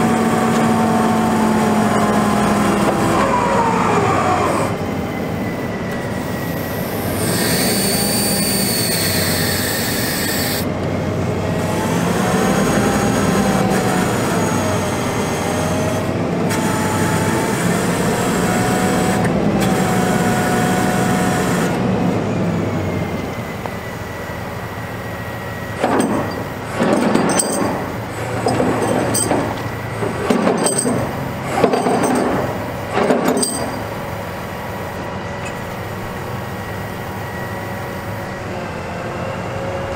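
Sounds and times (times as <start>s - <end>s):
hydraulic system drone and whine: 0.0s - 39.9s.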